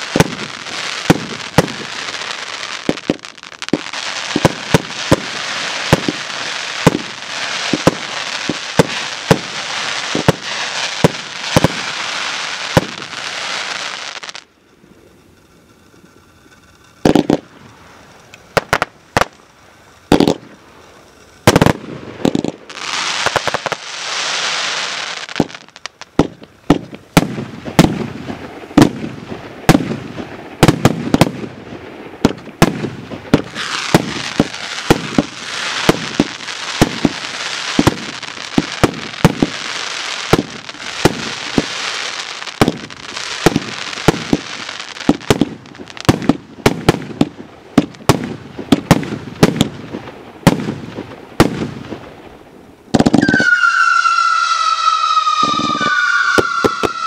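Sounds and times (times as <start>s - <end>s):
fireworks shots and bursts: 0.0s - 14.5s, 17.0s - 19.5s, 20.1s - 20.6s, 21.4s - 57.0s
crackling hiss of fireworks: 0.0s - 57.0s.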